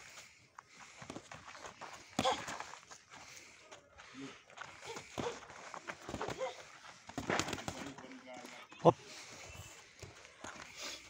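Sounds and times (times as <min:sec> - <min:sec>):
feet shuffling on dirt: 0:00.0 - 0:11.0.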